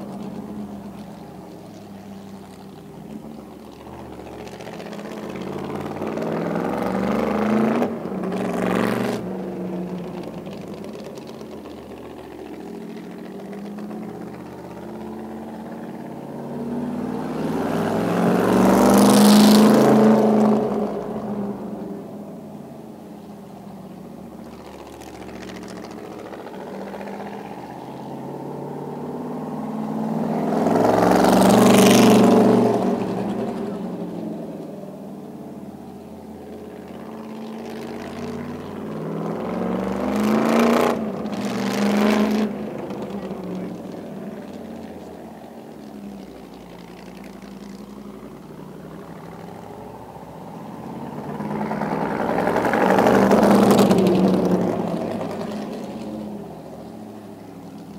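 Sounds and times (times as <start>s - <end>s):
race car engine passing: 0.0s - 57.9s.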